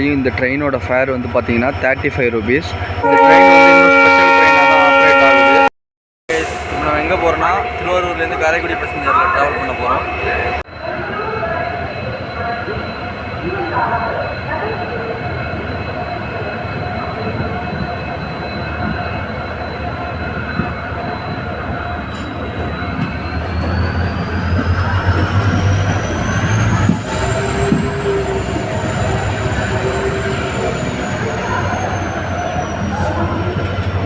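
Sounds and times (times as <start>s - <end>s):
diesel train rumble: 0.0s - 5.7s, 6.3s - 34.0s.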